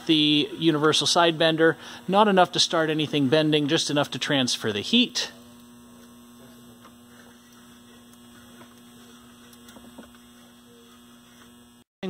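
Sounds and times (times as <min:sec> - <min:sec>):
low electrical mains hum: 0:00.0 - 0:11.9.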